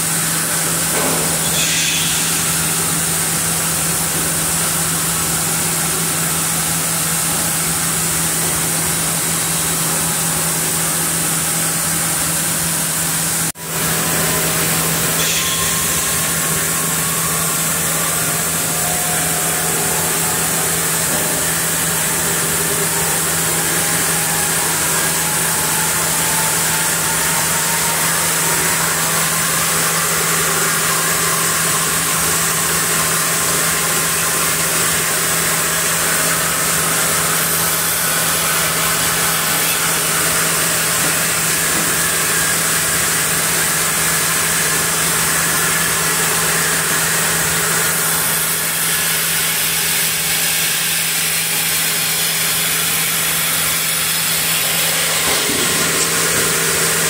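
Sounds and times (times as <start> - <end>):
band saw mill running: 0.0 - 57.0.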